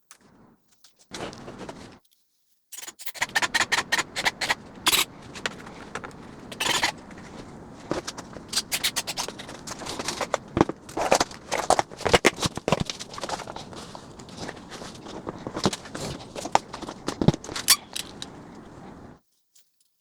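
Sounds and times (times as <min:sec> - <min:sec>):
model parts clicking and scraping: 0:02.8 - 0:19.2.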